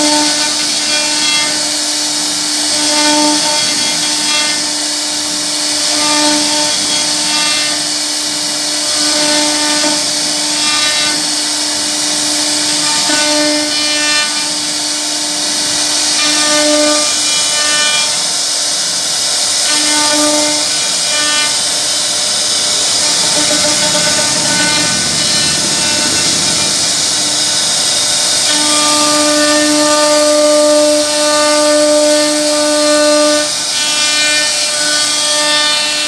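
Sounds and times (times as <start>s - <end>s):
wood router cutting wood: 0.0s - 36.0s.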